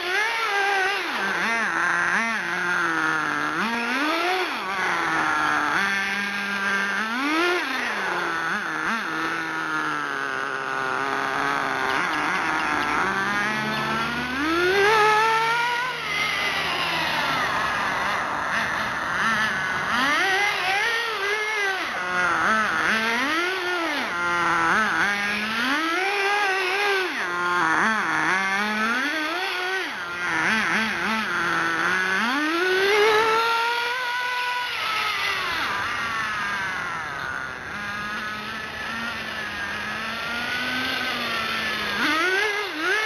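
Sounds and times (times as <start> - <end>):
nitro engine revving: 0.0 - 43.0.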